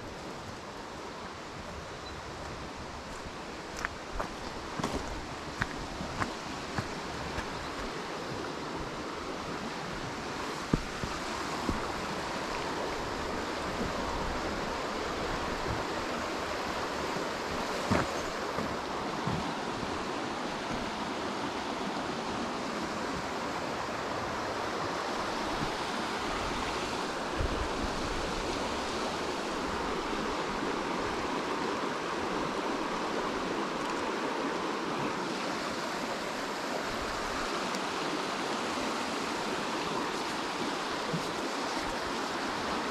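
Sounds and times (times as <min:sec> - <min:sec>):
steady rushing outdoor noise: 0:00.0 - 0:42.9.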